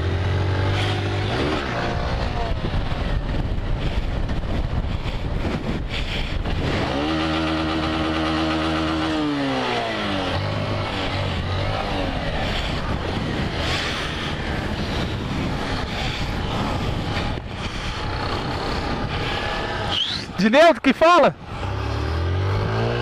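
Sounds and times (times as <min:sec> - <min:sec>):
motorcycle engine revving: 0:00.0 - 0:20.4, 0:21.4 - 0:23.0
wind rushing over microphone: 0:00.0 - 0:20.6, 0:21.2 - 0:23.0.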